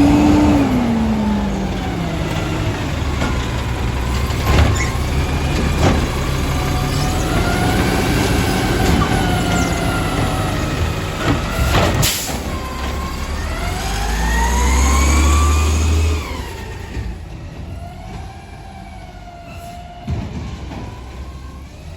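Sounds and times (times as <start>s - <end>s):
hydraulic whining: 0.0s - 18.6s
garbage truck engine running: 0.0s - 21.9s.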